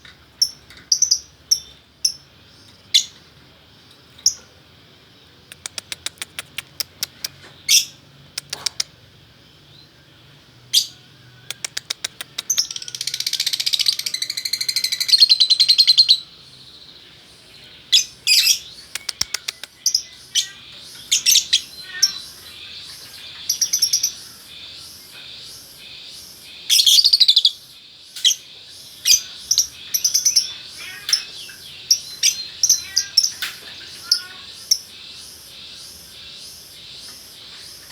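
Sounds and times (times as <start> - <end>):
lovebirds chirping: 5.2 - 37.9.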